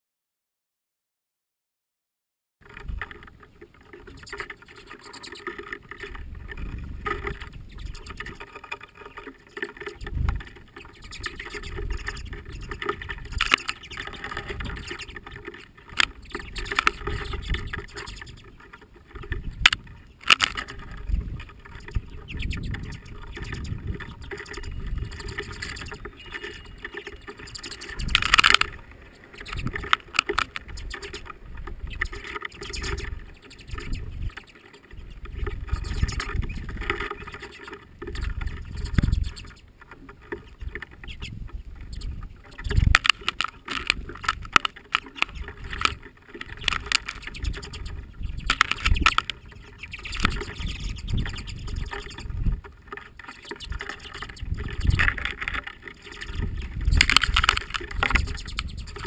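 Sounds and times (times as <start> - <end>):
wind rumble on microphone: 2.6 - 4.4, 5.8 - 8.6, 9.9 - 59.0
birds pecking and landing: 2.6 - 59.0
wings fluttering: 2.6 - 59.0.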